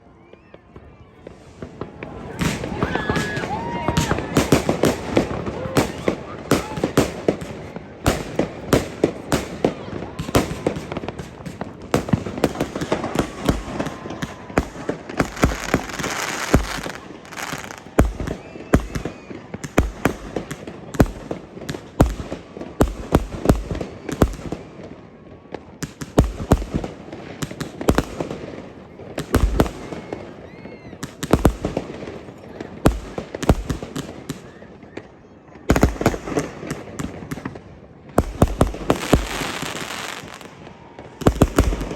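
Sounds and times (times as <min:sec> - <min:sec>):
faint fireworks whistles: 0:00.0 - 0:41.9
fireworks bangs: 0:00.0 - 0:41.9
fireworks crackling: 0:00.0 - 0:41.9.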